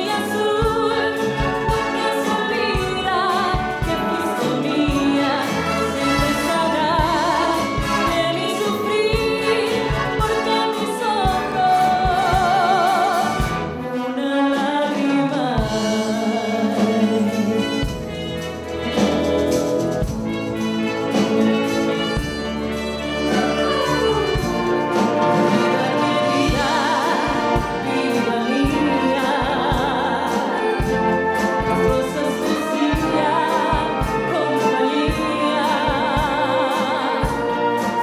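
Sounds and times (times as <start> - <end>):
woman singing with vibrato: 0.0 - 17.9, 23.3 - 38.0
concert band playing: 0.0 - 38.0.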